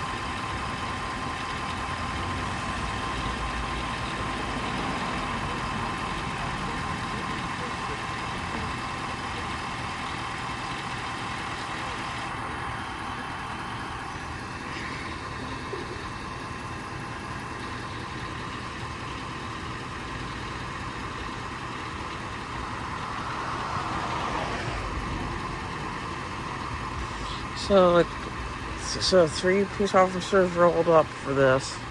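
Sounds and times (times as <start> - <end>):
vehicle engine idling: 0.0 - 31.9.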